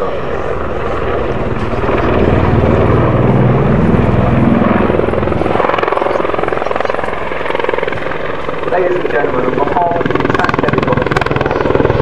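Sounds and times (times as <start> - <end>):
helicopter engine: 0.0 - 12.0
helicopter rotor beating: 0.0 - 12.0.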